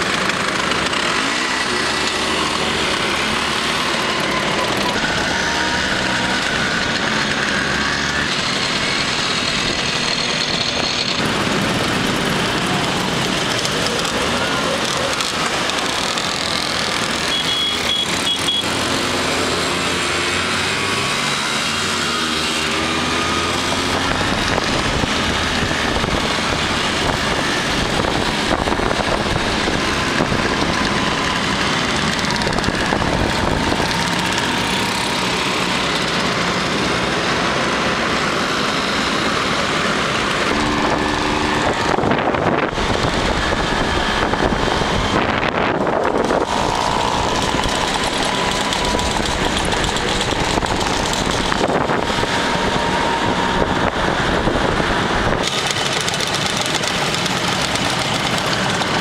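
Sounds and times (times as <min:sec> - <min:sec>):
motor scooter engines running: 0:00.0 - 0:59.0.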